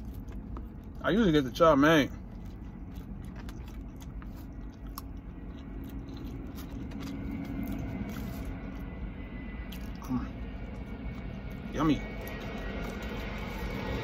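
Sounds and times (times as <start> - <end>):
man chewing food: 0.0 - 14.0
steady low rumble: 0.0 - 14.0.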